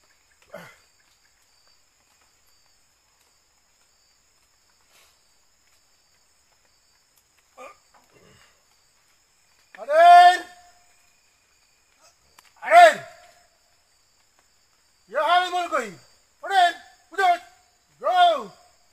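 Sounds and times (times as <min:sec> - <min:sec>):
night insects buzzing: 0:00.0 - 0:18.9.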